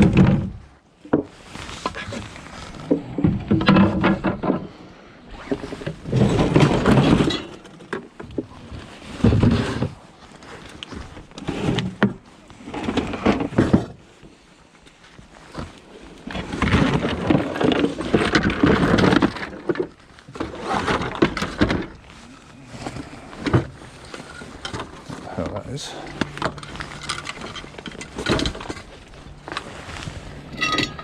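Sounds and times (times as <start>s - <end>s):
household junk clattering and rustling: 0.0s - 31.0s.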